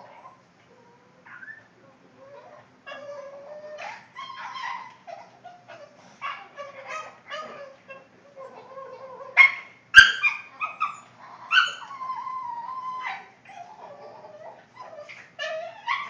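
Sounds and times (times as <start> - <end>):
dog whining: 0.0 - 16.0
dog yelping: 2.3 - 16.0.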